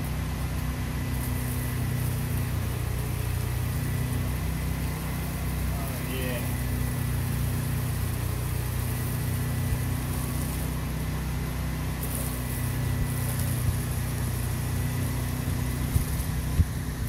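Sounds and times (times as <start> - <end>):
engine droning: 0.0 - 17.0
pressure washer spray hiss: 0.0 - 17.0.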